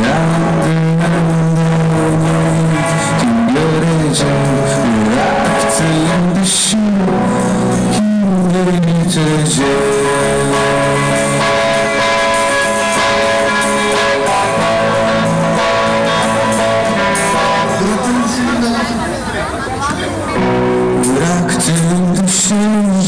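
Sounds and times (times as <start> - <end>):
person singing: 0.0 - 19.1, 20.4 - 23.0
electric guitar chords: 0.0 - 23.0
live rock band: 0.0 - 23.0.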